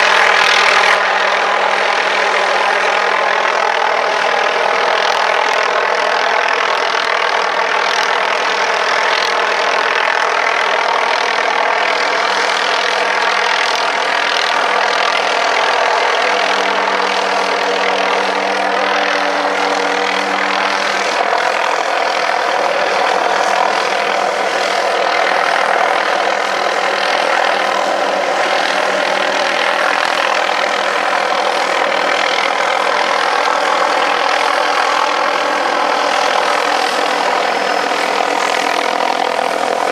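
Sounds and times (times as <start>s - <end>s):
helicopter running: 0.0s - 39.9s
low hum: 0.0s - 39.9s.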